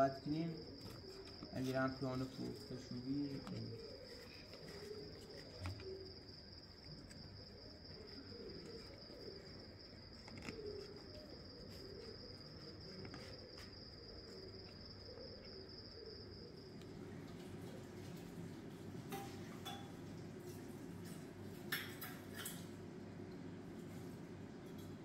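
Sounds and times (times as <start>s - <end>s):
cricket trilling: 0.0s - 25.0s.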